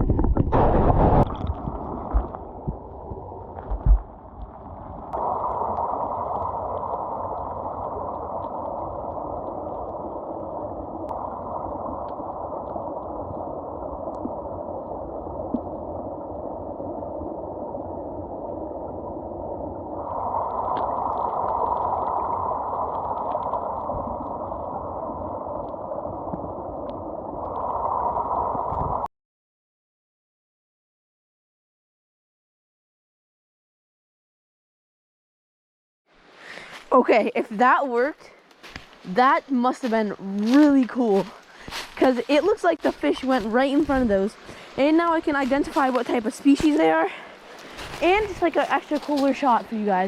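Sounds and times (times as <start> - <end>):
muffled underwater rushing: 0.0 - 29.1, 38.7 - 50.0.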